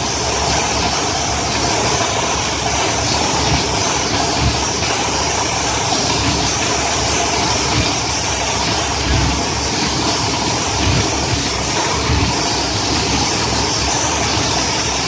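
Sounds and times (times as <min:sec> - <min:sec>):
racing engine idling: 0:00.0 - 0:15.0.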